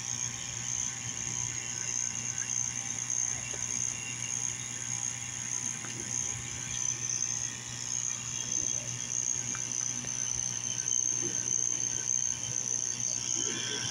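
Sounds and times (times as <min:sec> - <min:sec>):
water pump humming: 0:00.0 - 0:13.9.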